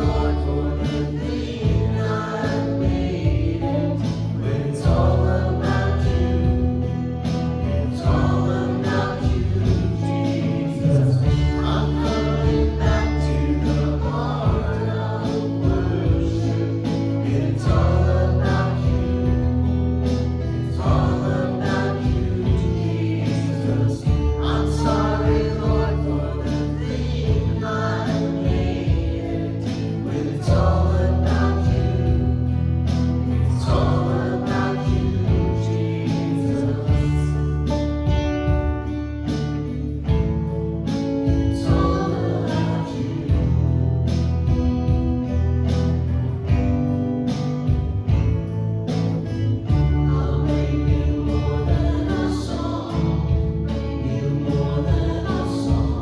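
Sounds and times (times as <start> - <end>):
voices singing together: 0.0 - 38.3, 40.0 - 56.0.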